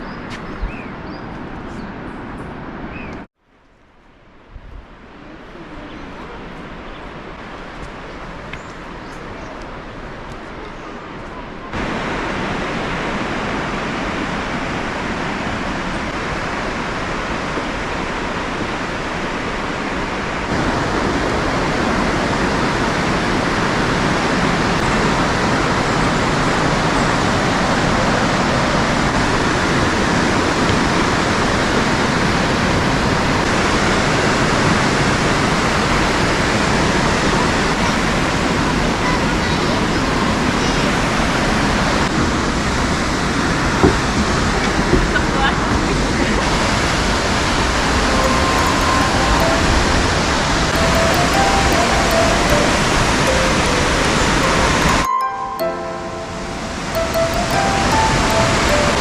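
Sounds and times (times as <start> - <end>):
waterfall roaring: 5.0 - 59.0.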